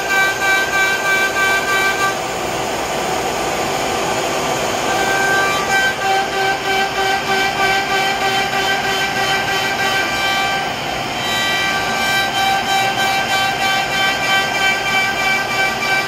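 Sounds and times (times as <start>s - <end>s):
router cutting wood: 0.0s - 2.3s, 4.1s - 16.0s
dust-collection vacuum: 0.0s - 16.0s
router spindle whine: 0.0s - 16.0s.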